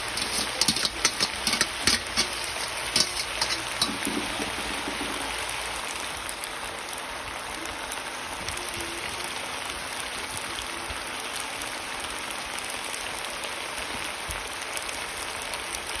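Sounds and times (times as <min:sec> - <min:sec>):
chicken sizzling in a pot: 0:00.0 - 0:16.0.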